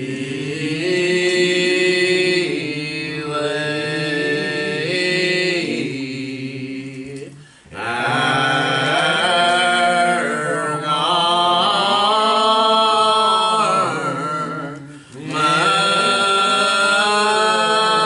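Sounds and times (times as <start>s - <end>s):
unaccompanied hymn singing: 0.0s - 18.0s.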